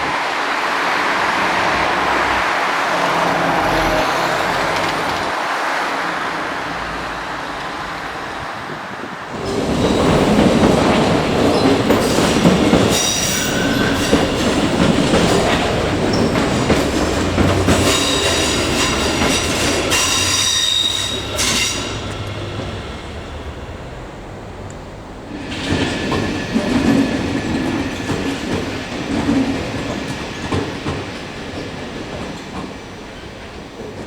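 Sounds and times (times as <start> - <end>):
high wheel squeal: 0.0 - 31.8
train wheels clattering over rails: 0.0 - 34.0.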